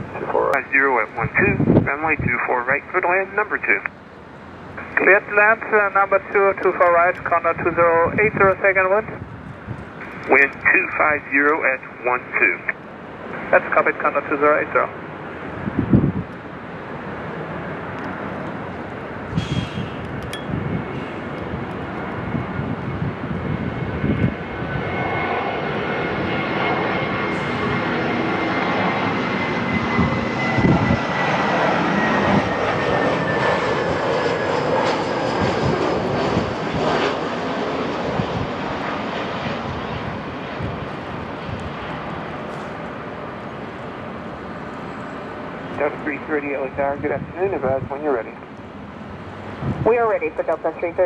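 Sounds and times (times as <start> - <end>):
jet airliner engines passing: 0.0 - 51.0.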